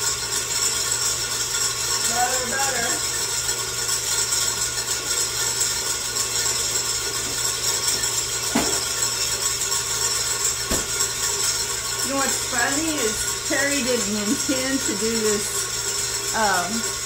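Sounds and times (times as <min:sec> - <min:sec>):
electric mixer whipping: 0:00.0 - 0:17.0.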